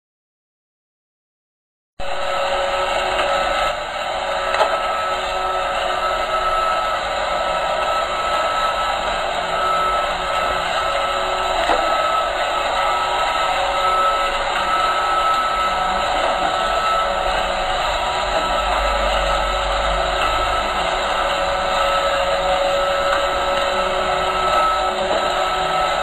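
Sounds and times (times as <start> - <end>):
robot vacuum whirring: 2.0 - 26.0.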